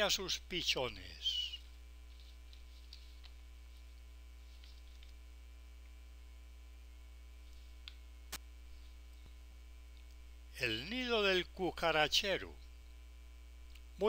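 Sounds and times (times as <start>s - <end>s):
low electrical mains hum: 0.0s - 14.0s.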